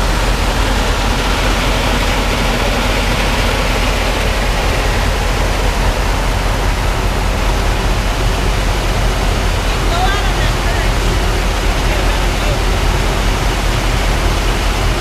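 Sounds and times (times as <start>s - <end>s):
concrete mixer truck rushing: 0.0s - 15.0s
low hum: 0.0s - 15.0s.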